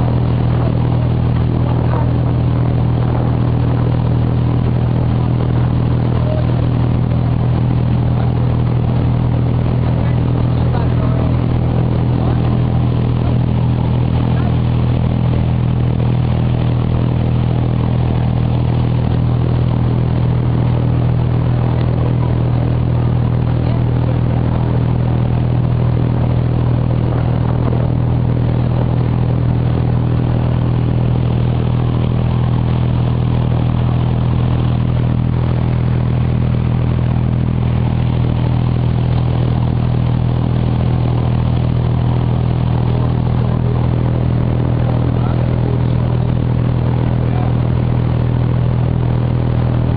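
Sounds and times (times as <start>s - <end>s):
boat diesel engine droning: 0.0s - 49.9s.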